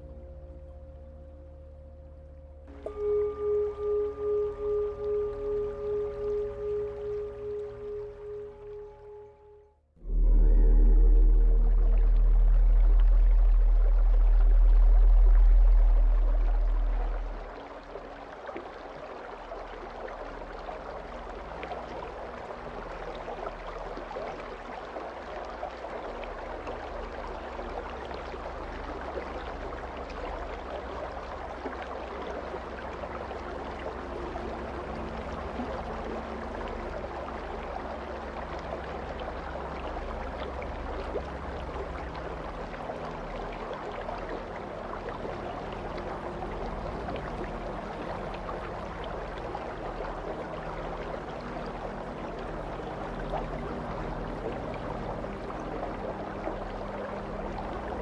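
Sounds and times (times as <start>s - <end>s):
low sustained drone: 0.0s - 17.7s, 26.3s - 58.0s
running water: 0.0s - 58.0s.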